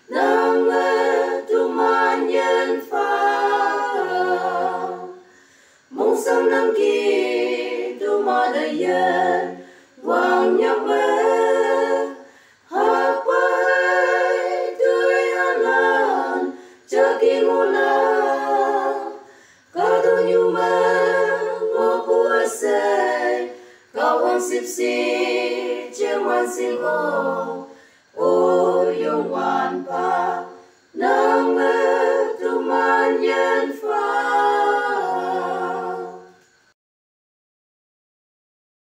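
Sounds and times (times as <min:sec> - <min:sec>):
voices singing in harmony: 0:00.0 - 0:36.8.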